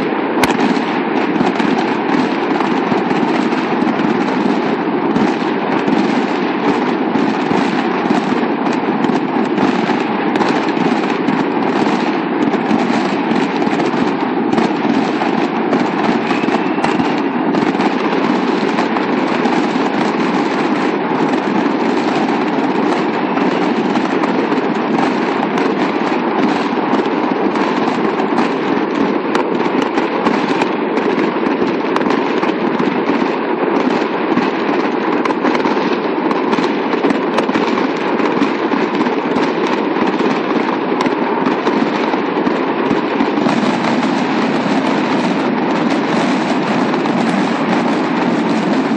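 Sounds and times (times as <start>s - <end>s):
fireworks crackling and popping: 0.0s - 48.9s.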